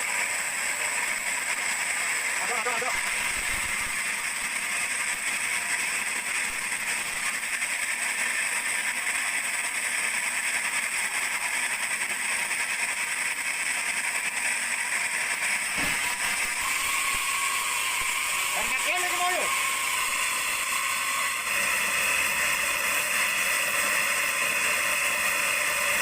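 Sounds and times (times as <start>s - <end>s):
sawmill saw cutting log: 0.0s - 26.0s.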